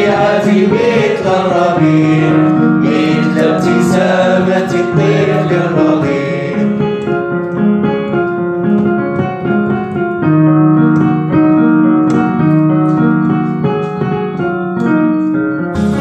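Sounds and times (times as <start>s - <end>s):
piano-like keyboard music: 0.0s - 16.0s.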